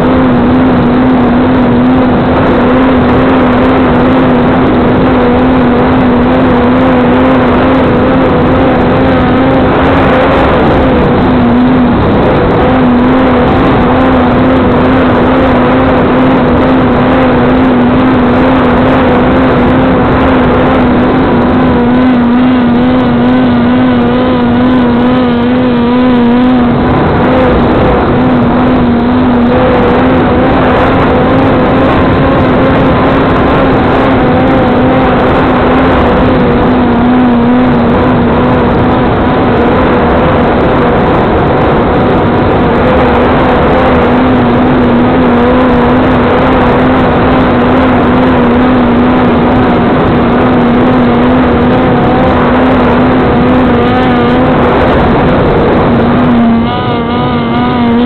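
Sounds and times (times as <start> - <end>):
loud wind rush: 0.0 - 58.0.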